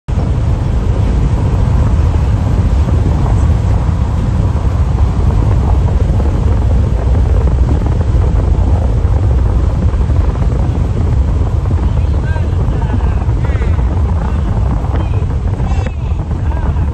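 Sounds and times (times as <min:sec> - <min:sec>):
tyre and wind rumble: 0:00.0 - 0:16.9.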